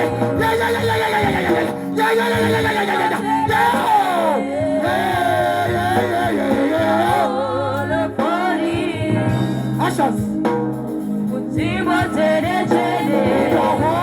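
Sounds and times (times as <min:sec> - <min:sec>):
person singing wordless melody: 0:00.0 - 0:10.5, 0:11.1 - 0:14.0
held chords: 0:00.0 - 0:14.0.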